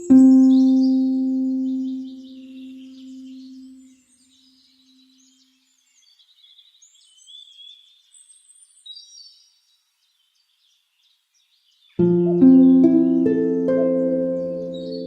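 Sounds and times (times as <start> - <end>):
songbird chirps and trills: 0.0 - 15.0.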